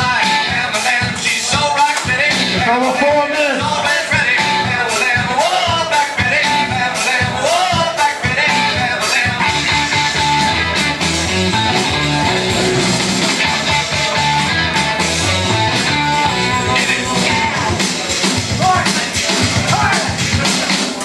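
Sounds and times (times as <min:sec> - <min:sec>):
rock and roll song with singing: 0:00.0 - 0:21.0.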